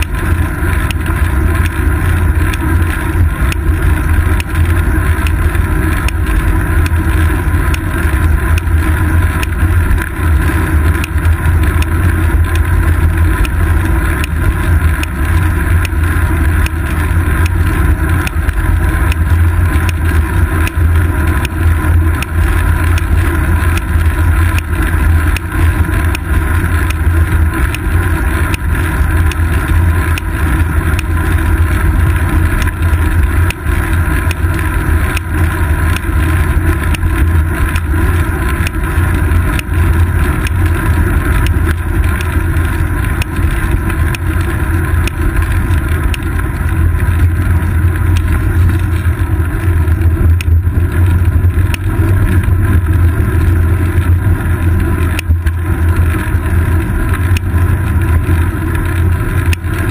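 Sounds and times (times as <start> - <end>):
bicycle riding rumble: 0.0 - 59.9
ticks and knocks from road: 0.0 - 59.9.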